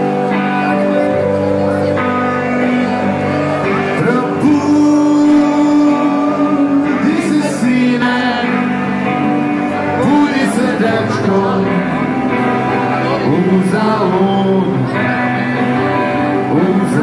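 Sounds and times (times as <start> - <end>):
electric guitars: 0.0 - 17.0
man singing: 2.2 - 17.0.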